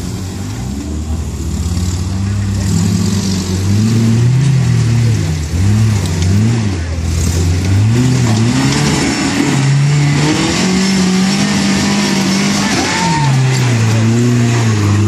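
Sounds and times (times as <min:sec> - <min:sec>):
truck engine revving under load: 0:00.0 - 0:15.0.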